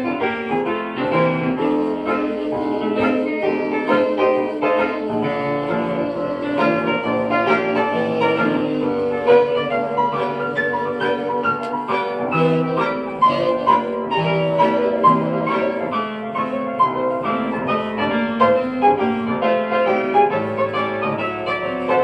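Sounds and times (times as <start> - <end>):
hot jazz band playing: 0.0 - 22.0.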